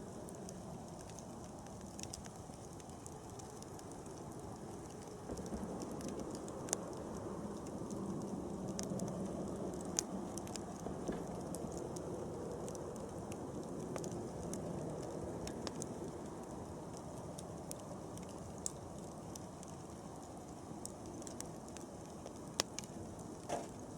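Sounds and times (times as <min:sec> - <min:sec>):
flames rushing: 0:00.0 - 0:23.9
wood crackling and popping: 0:00.0 - 0:23.9.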